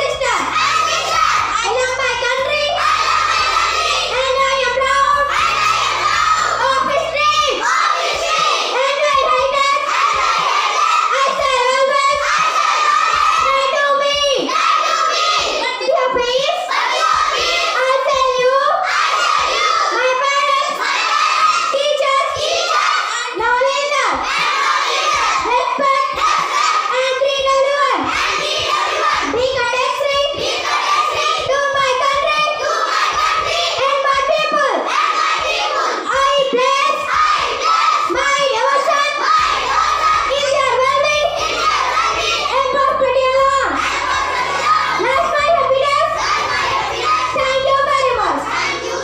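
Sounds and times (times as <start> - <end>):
children chanting in unison: 0.0 - 49.0.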